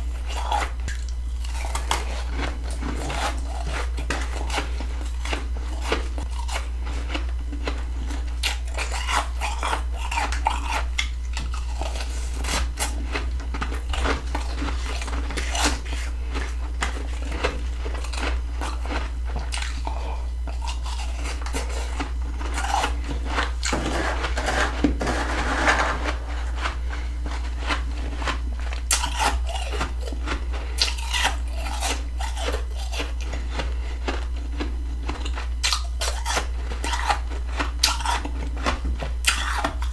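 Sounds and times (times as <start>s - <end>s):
frost being chewed crunching: 0.0s - 39.9s
steady low hum: 0.0s - 39.9s.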